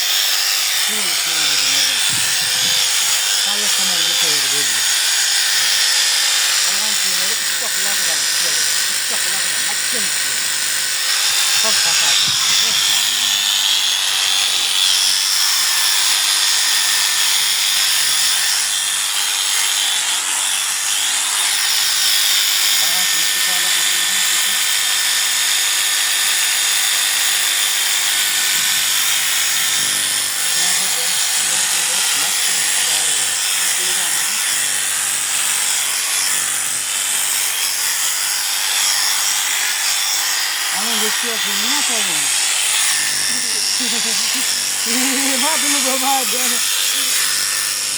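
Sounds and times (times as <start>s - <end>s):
electric clippers buzzing: 0.0s - 47.9s.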